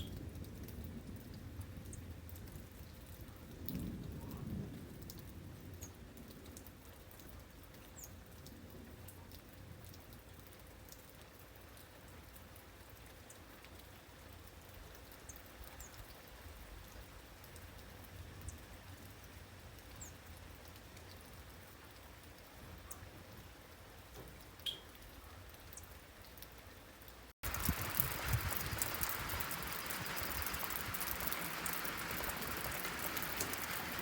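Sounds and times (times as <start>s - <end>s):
faint steady rain: 0.0s - 34.0s
raindrops pattering: 0.0s - 34.0s.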